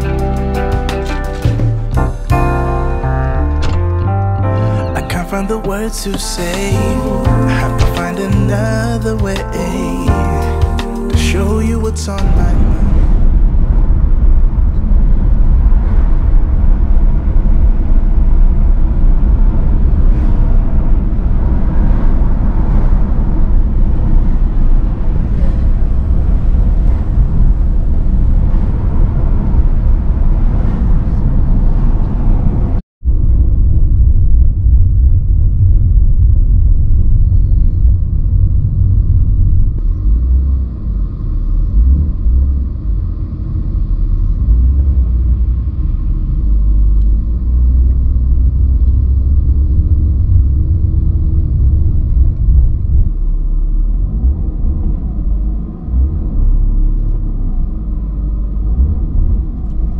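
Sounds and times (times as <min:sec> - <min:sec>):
in-cabin engine and road noise: 0:00.0 - 0:59.9.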